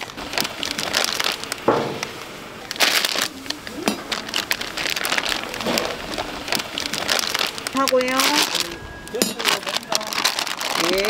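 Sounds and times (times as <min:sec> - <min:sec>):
food crinkling and scraping: 0:00.0 - 0:11.0.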